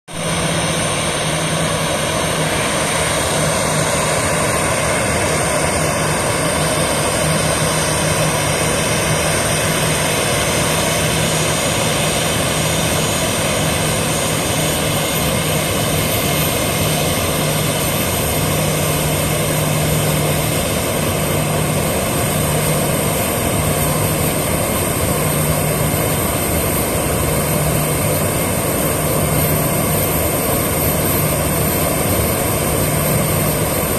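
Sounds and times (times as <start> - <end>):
jet engines idling: 0.1 - 33.9.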